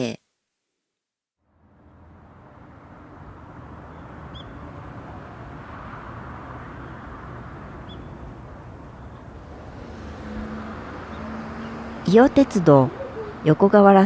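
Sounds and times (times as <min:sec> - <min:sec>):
outdoor ambient noise: 0:01.4 - 0:14.0.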